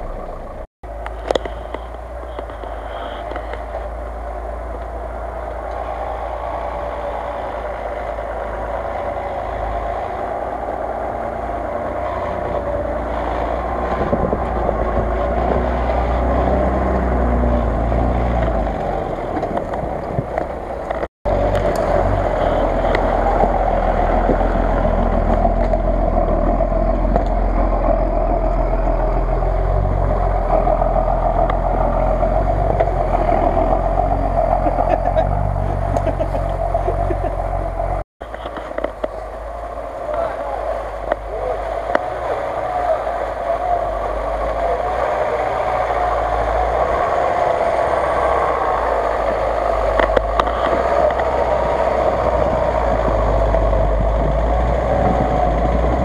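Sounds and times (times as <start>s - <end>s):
truck engine under load: 0.0s - 56.0s.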